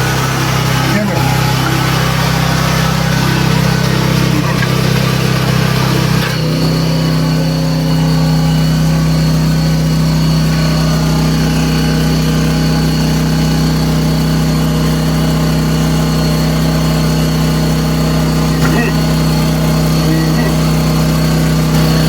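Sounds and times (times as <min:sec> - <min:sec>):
faint high whine: 0:00.0 - 0:14.5, 0:18.2 - 0:22.0
jetter engine running: 0:00.0 - 0:22.0.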